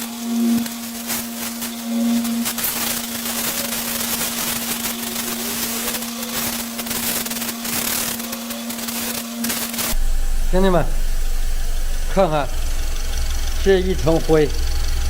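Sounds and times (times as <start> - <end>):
high-pressure jet hissing: 0.0 - 15.0
steady low hum: 0.0 - 15.0.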